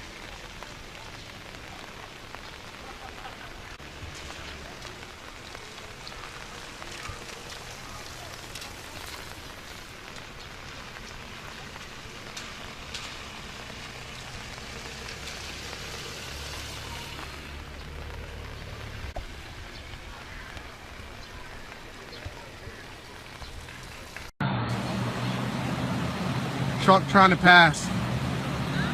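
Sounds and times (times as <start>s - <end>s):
raindrops ticking on surface: 0.0s - 24.3s
steady rain falling: 0.0s - 28.9s.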